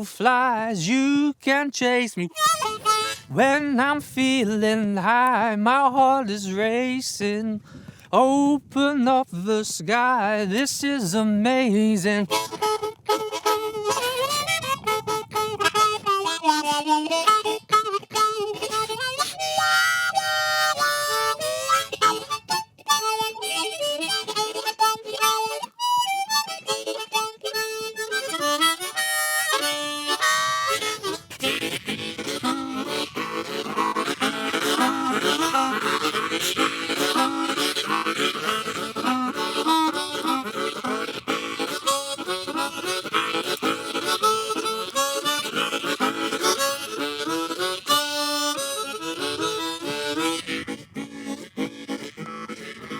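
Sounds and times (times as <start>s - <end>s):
solo harmonica playing: 0.0s - 52.9s.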